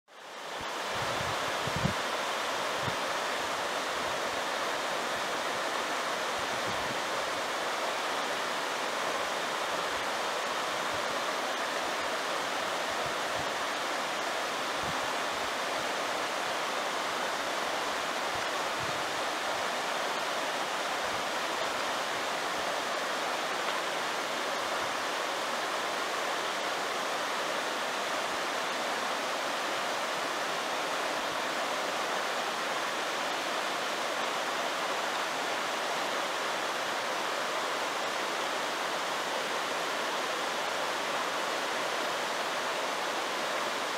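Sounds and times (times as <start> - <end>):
stream rushing over rocks: 0.1 - 43.9.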